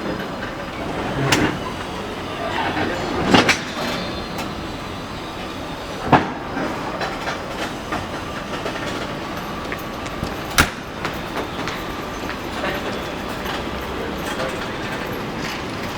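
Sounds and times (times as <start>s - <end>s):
sharp train clanks: 0.0s - 15.9s
train rumbling: 0.0s - 15.9s.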